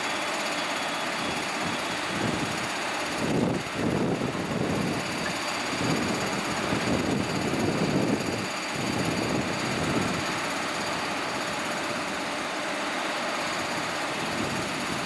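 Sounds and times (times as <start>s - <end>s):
locomotive machinery humming: 0.0s - 15.0s.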